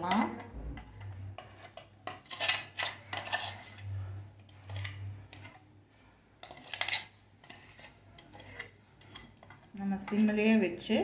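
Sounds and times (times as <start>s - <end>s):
metal spoon scraping pot: 0.0s - 5.8s, 6.4s - 10.8s.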